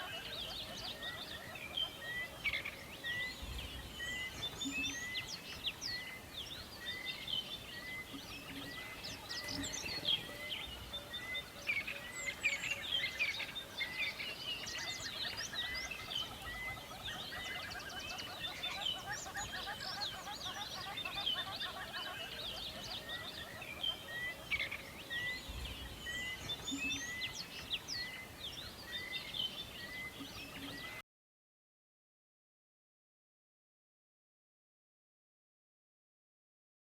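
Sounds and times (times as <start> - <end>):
birds chirping and singing: 0.0 - 31.0.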